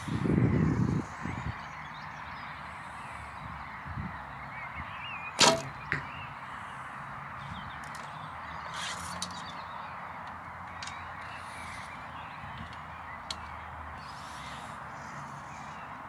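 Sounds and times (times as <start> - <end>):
distant birds calling: 0.0 - 16.0.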